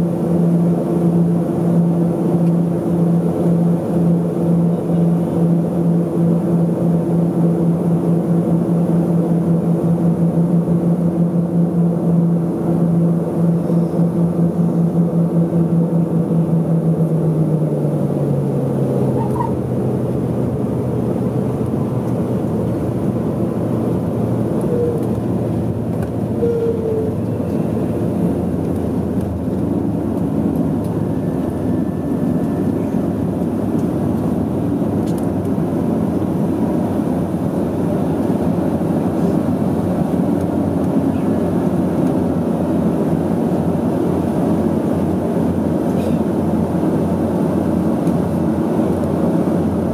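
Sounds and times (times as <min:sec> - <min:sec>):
plane rolling on runway rumble: 0:00.0 - 0:49.9
propeller engine drone: 0:00.0 - 0:49.9.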